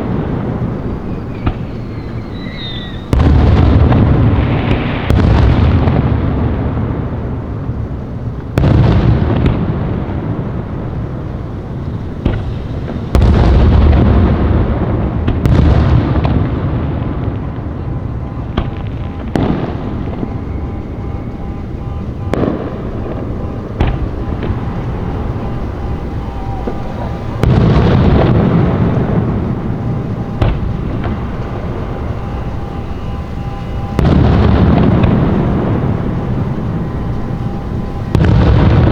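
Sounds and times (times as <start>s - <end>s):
firework booms with rolling rumble: 0.0s - 38.9s
sharp firework cracks: 0.0s - 38.9s.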